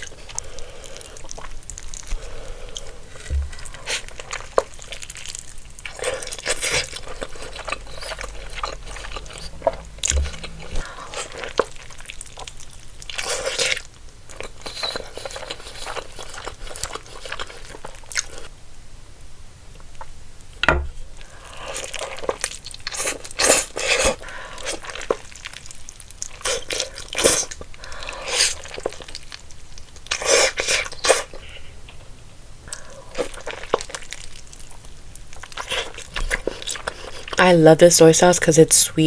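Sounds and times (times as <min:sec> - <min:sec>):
chewing and biting food: 0:00.0 - 0:18.6, 0:21.2 - 0:32.0, 0:32.7 - 0:37.4
food crunching: 0:00.0 - 0:18.6, 0:21.1 - 0:37.4.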